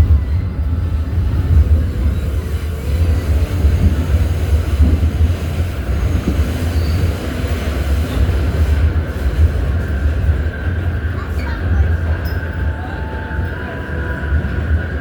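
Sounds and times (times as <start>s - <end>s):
subway car rumbling on track: 0.0s - 15.0s.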